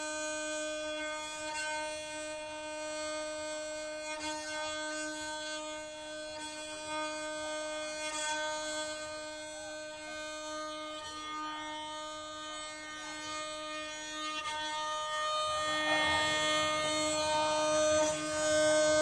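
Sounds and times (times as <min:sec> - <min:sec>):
bowed violin drone: 0:00.0 - 0:19.0.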